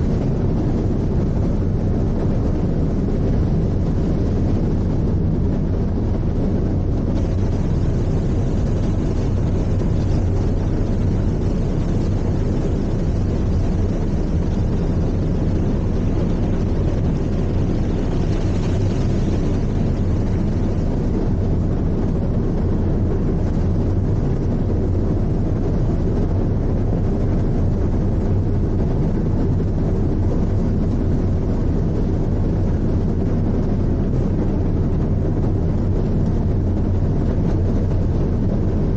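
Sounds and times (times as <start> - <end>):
wind and water hiss: 0.0 - 38.5.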